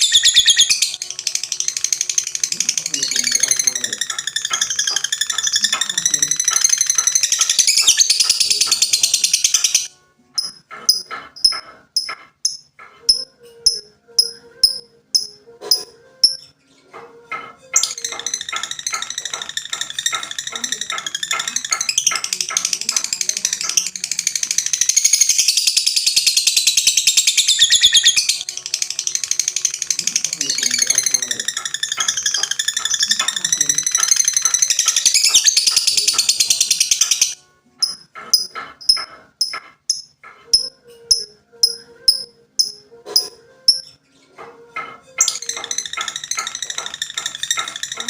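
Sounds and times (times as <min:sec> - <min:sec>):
lovebird chattering trill: 0:00.0 - 0:16.5, 0:17.8 - 0:44.0, 0:45.2 - 0:48.0.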